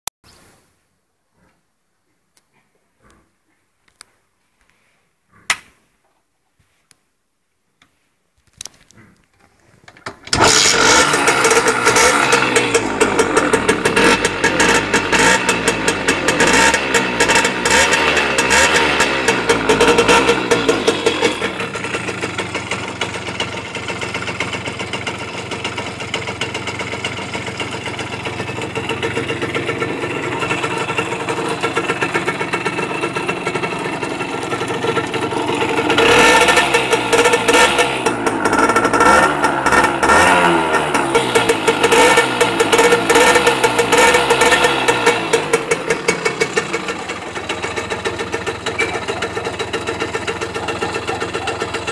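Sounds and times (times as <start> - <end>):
moped engine idling and revving: 10.3 - 51.9.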